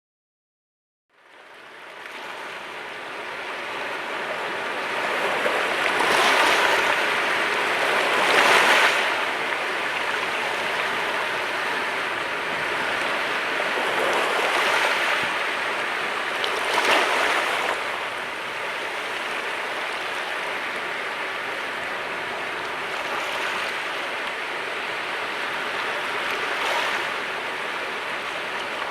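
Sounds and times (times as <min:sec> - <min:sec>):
sea waves breaking on shore: 0:01.3 - 0:28.9.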